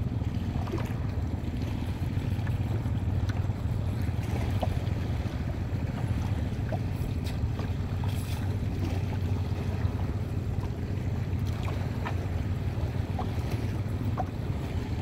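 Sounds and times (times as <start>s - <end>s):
choppy seawater: 0.0s - 15.0s
wind rumble on microphone: 0.0s - 15.0s.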